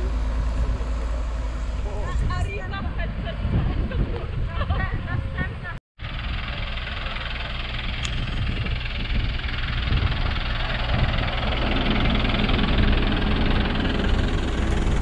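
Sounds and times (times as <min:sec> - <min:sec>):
bus diesel engine approaching: 0:00.0 - 0:15.0.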